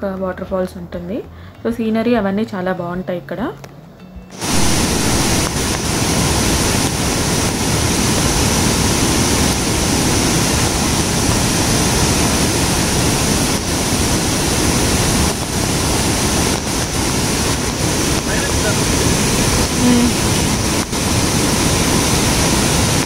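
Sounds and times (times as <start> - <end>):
waterfall rapids rushing: 4.4 - 23.0.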